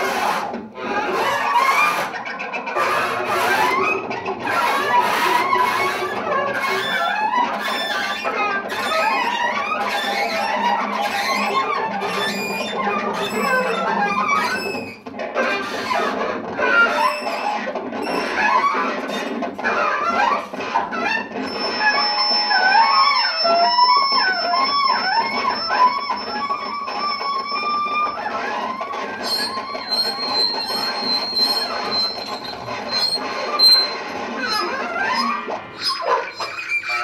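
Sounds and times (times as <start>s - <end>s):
drumheads rubbed and scraped: 0.0s - 37.0s.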